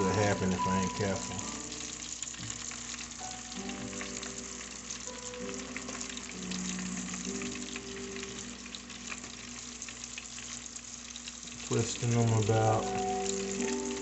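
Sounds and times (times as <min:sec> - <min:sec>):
calamari deep-frying in oil: 0:00.0 - 0:14.0.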